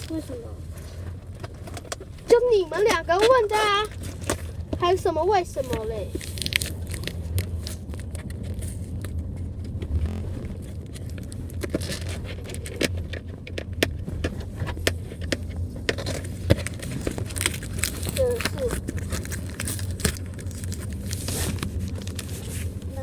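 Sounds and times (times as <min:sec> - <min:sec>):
car cabin rumble: 0:00.0 - 0:23.0
small clicks and rattles: 0:00.8 - 0:09.9, 0:10.5 - 0:23.0.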